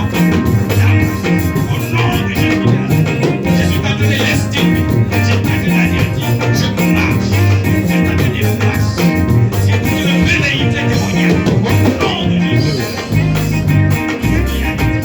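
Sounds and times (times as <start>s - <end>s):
church band music: 0.0s - 15.0s.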